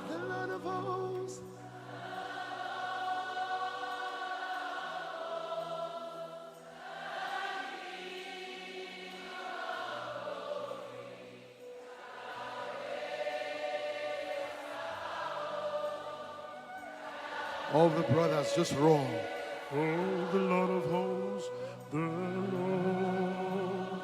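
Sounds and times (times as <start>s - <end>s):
low musical accompaniment: 0.0s - 24.0s
women singing a slow chant: 0.0s - 24.0s.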